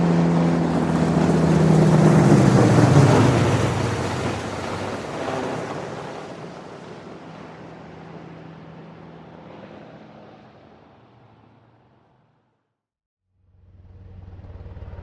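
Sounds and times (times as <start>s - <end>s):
helicopter flying away: 0.0s - 12.4s, 13.5s - 15.0s.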